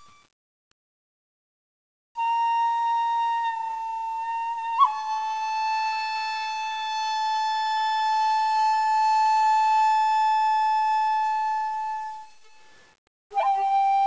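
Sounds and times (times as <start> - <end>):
wind instrument long note: 2.2 - 14.0.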